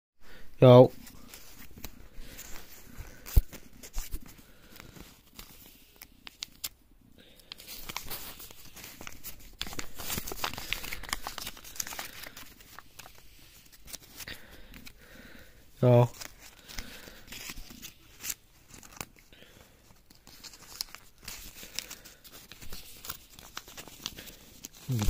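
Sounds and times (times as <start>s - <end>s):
packaging crinkling and tearing: 1.0s - 15.0s, 16.1s - 19.3s, 19.9s - 25.0s.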